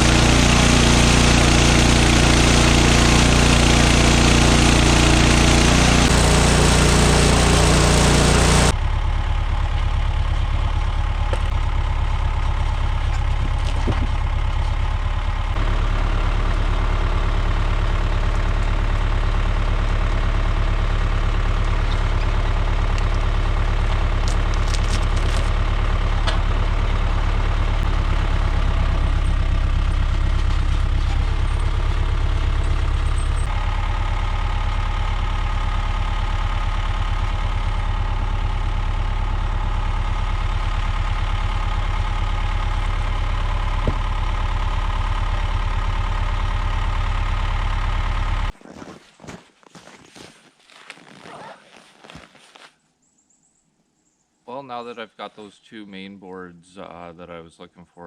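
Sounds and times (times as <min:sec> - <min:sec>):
sawmill engine running: 0:00.0 - 0:48.6.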